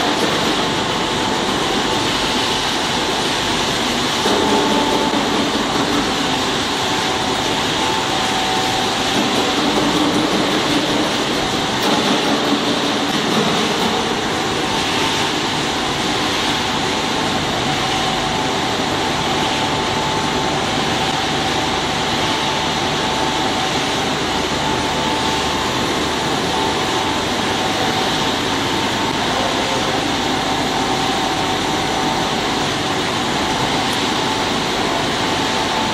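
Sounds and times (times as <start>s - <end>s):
production line machinery running: 0.0s - 35.9s
steady machine whine: 0.0s - 35.9s.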